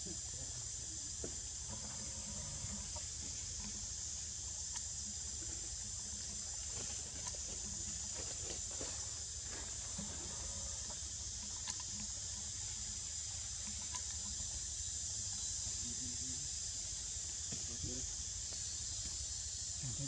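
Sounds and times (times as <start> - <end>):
insects buzzing: 0.0 - 20.0
faint ticks: 1.2 - 19.6.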